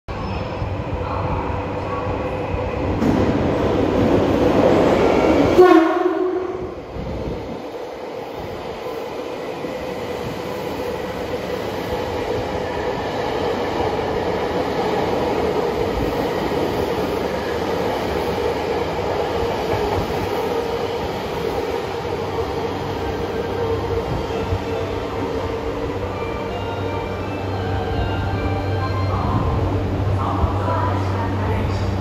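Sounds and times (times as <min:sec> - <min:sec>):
subway train passing: 0:00.1 - 0:32.0.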